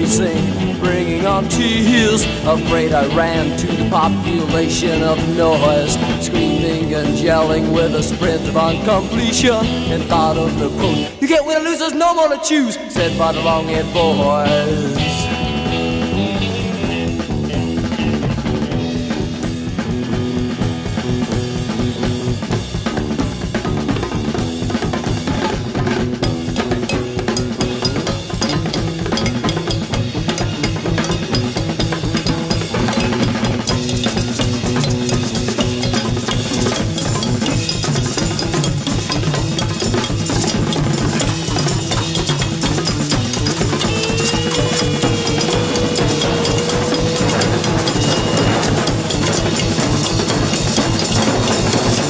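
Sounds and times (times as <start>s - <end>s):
drum kit playing: 0.0s - 11.4s, 12.0s - 52.0s
rock band instruments: 0.0s - 52.0s.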